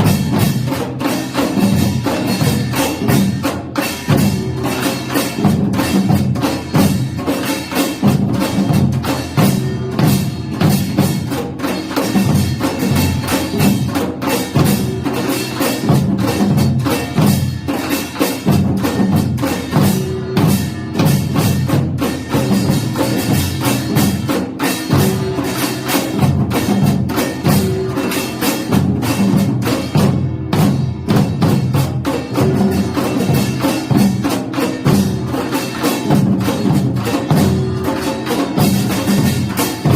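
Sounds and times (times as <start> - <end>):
drums and small gongs: 0.0 - 39.9.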